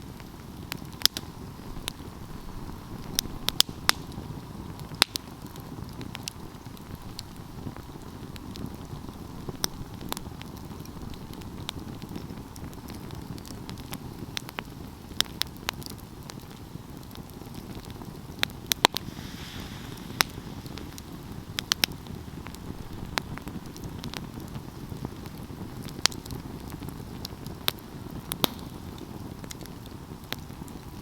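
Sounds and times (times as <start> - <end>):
fire crackles and pops: 0.0 - 31.0
low rumble of flames: 0.0 - 31.0.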